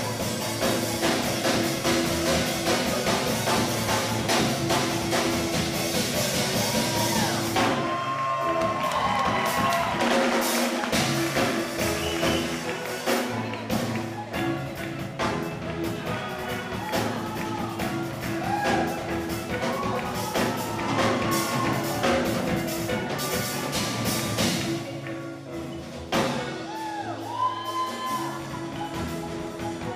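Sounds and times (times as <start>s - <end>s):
drum kit beat: 0.0s - 29.9s.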